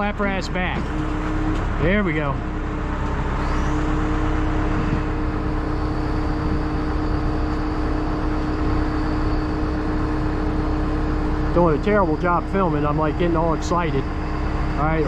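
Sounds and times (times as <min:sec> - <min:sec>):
machine engine droning: 0:00.0 - 0:15.0.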